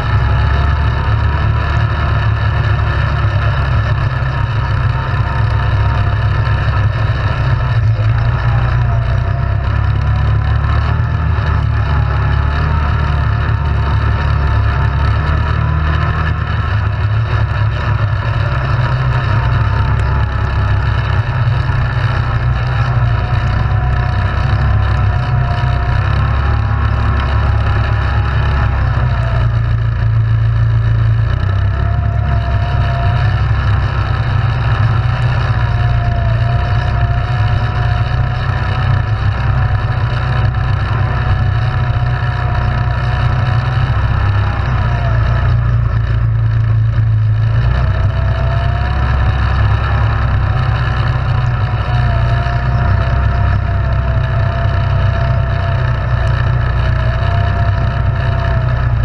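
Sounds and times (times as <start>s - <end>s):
atv engine whining: 0.0s - 59.0s.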